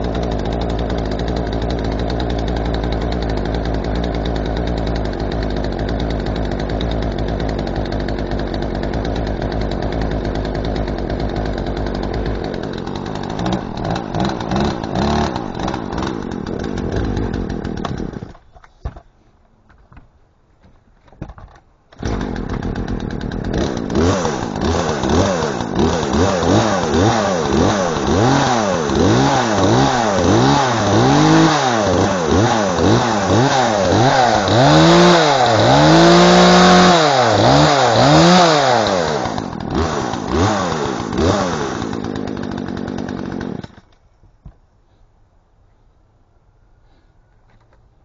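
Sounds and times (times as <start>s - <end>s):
chainsaw revving: 0.0s - 18.5s, 22.0s - 43.9s.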